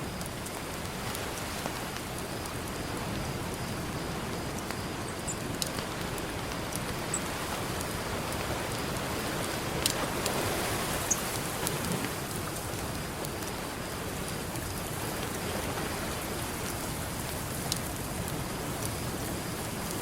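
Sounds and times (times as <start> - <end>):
campfire crackling and popping: 0.0 - 20.0
ocean surf: 2.9 - 20.0.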